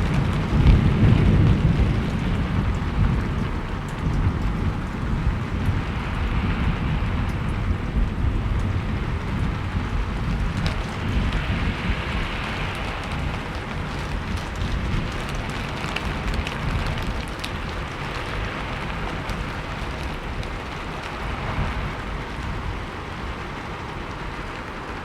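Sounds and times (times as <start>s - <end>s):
rain falling: 0.0s - 25.0s
sharp raindrop ticks: 0.0s - 25.0s.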